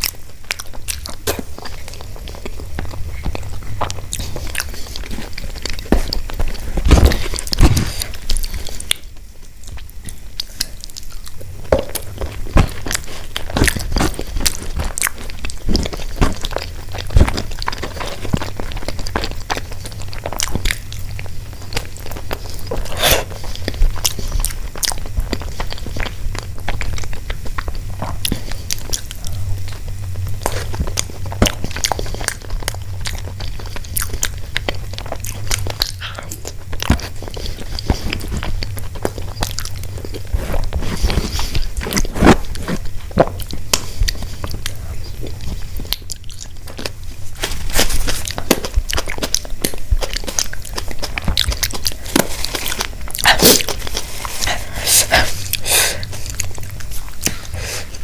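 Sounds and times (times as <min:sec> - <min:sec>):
person chewing wet mouth sounds: 0:00.0 - 0:58.0
steady low hum: 0:00.0 - 0:58.0.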